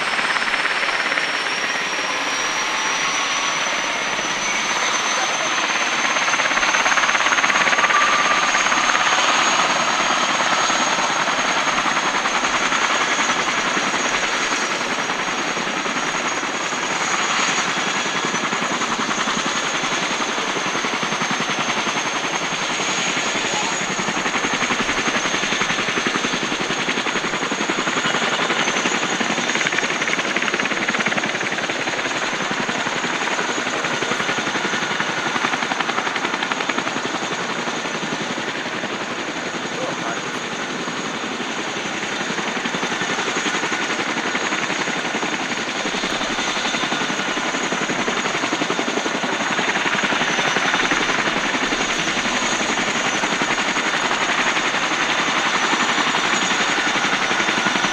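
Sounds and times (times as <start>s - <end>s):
turbine engine whine: 0.0s - 57.9s.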